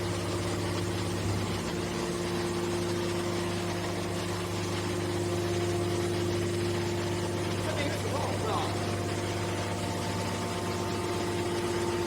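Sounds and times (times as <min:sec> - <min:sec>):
hydraulic baler motor humming: 0:00.0 - 0:12.0.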